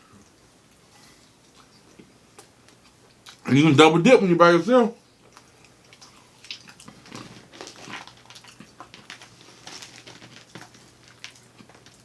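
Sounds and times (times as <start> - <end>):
person chewing and lip smacking: 0.0 - 3.5, 5.2 - 12.0.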